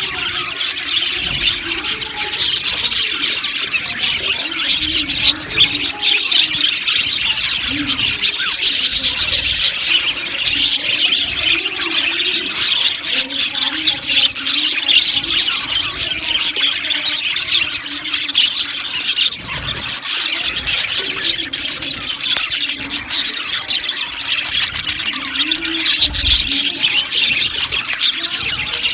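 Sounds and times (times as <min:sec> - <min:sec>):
budgerigars chattering and chirping: 0:00.0 - 0:28.9.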